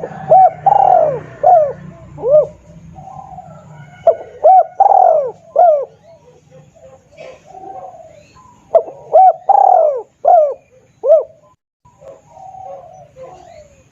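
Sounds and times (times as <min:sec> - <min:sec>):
dove cooing: 0:00.0 - 0:13.9.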